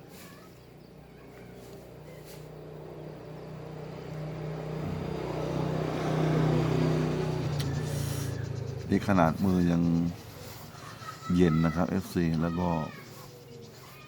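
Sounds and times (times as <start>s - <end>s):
vehicle engine approaching: 0.0s - 14.0s.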